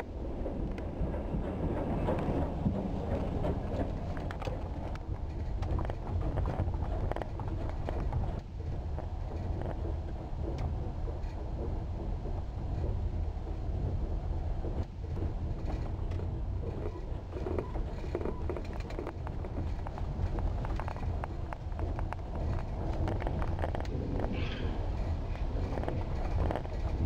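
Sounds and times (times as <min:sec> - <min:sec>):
train carriage rumble: 0:00.0 - 0:27.0.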